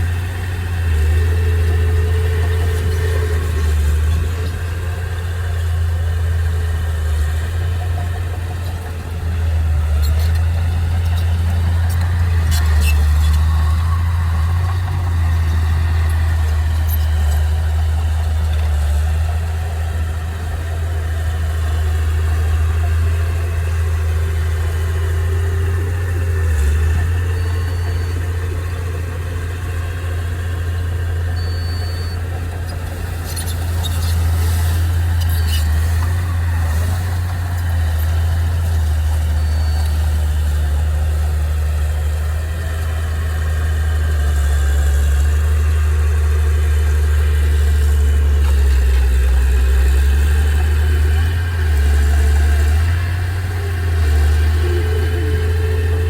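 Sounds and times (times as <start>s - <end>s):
heavy machinery engine droning: 0.0s - 56.0s.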